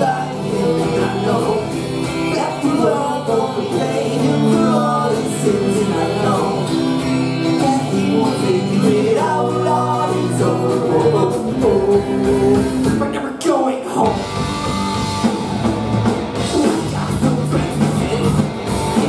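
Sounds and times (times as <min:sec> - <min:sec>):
electric guitar: 0:00.0 - 0:13.2, 0:13.9 - 0:19.0
bass guitar: 0:00.0 - 0:13.3, 0:14.0 - 0:19.0
lead vocal: 0:00.0 - 0:14.6, 0:16.2 - 0:19.0
drums: 0:00.0 - 0:19.0.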